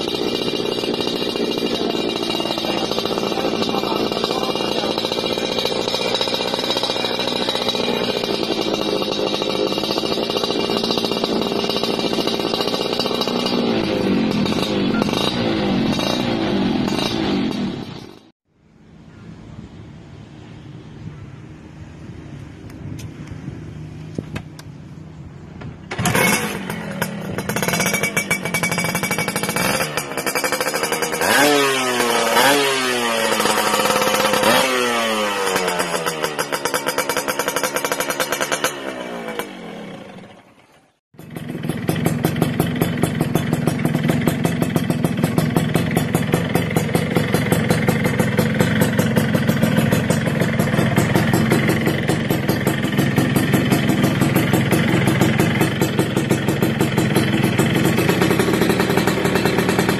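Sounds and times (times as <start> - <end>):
two-stroke motorcycle idling: 0.0 - 18.3, 24.1 - 59.9
two-stroke motorcycle revving: 0.0 - 18.4, 25.6 - 59.9.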